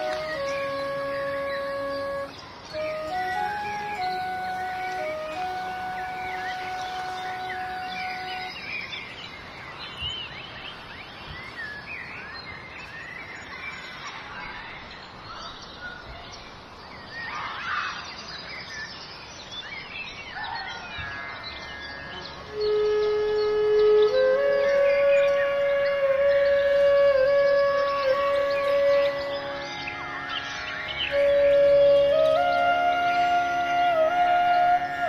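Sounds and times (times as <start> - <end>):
small birds chirping: 0.0 - 21.1, 21.9 - 35.0
steady background hiss: 0.0 - 35.0.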